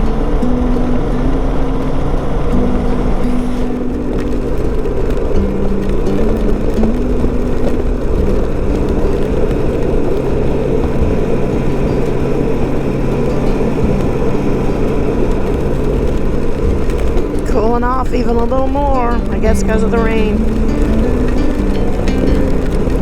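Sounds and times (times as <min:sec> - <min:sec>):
heavy wind rush: 0:00.0 - 0:23.0
motorcycle engine hum: 0:00.0 - 0:23.0.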